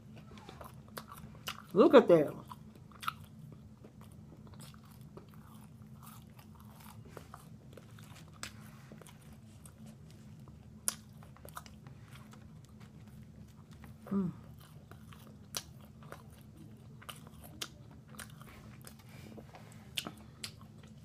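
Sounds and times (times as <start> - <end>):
low steady hum: 0.0 - 21.0
chewing crunchy fried food: 0.1 - 21.0.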